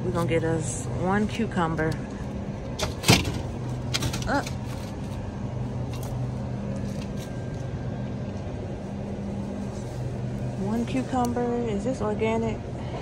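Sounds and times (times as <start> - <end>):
store background hum: 0.0 - 13.0.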